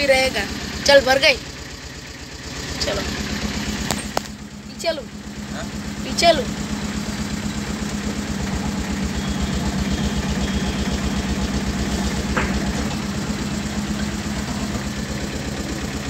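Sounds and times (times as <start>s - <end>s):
vehicle engine running at low revs: 0.0s - 16.0s.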